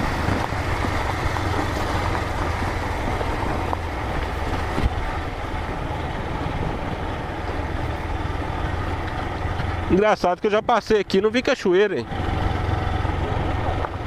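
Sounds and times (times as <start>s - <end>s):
motorcycle engine hum: 0.0s - 14.0s
road and wind noise: 0.0s - 14.0s.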